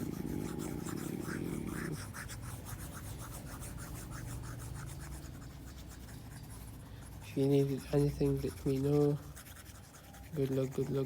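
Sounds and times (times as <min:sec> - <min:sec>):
eraser rubbing on paper: 0:00.0 - 0:11.0.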